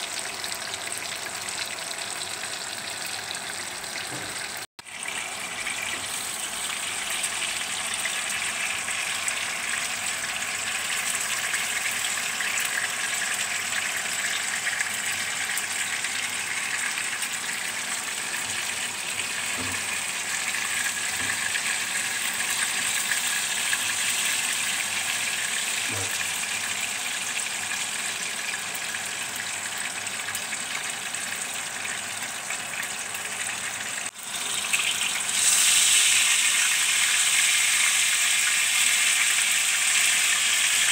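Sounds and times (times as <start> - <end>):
fish sizzling in hot oil: 0.0 - 40.9.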